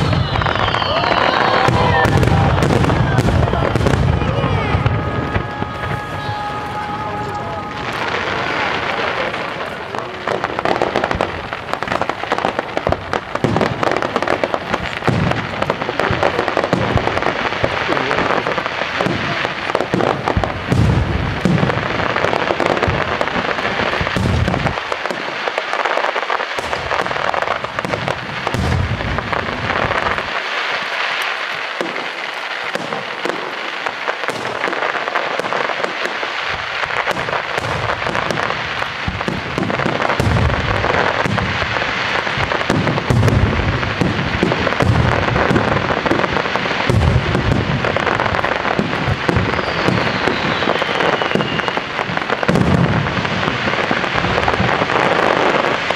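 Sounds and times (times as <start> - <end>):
fireworks bursting: 0.0 - 55.9
fireworks crackling: 0.0 - 55.9.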